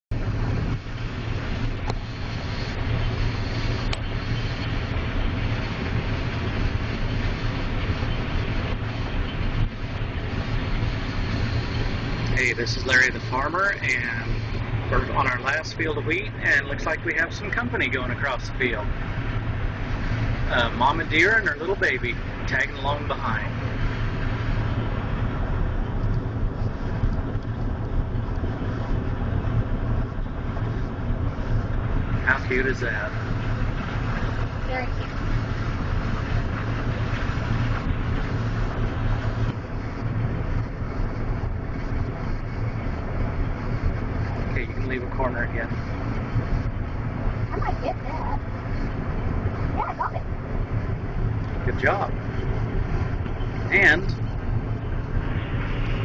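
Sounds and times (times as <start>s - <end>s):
combine harvester engine drone: 0.0s - 56.0s
wind noise: 0.0s - 56.0s
machinery rushing noise: 0.1s - 56.0s.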